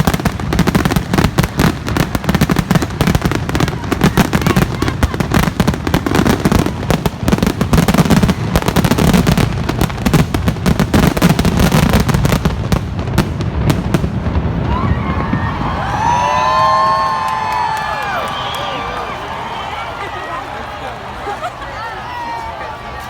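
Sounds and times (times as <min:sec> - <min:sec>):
fireworks crackling and popping: 0:00.0 - 0:21.2
whistling fireworks: 0:00.0 - 0:21.2.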